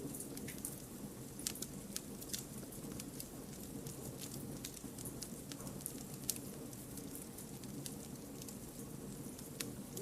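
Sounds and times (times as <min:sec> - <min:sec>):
campfire flames rumbling: 0:00.0 - 0:10.0
fire crackling and popping: 0:00.0 - 0:10.0.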